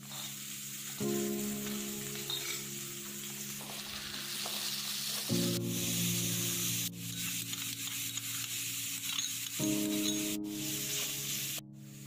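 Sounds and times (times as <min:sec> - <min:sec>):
onions sizzling in hot oil: 0:00.0 - 0:12.0
soft background music: 0:00.0 - 0:12.0.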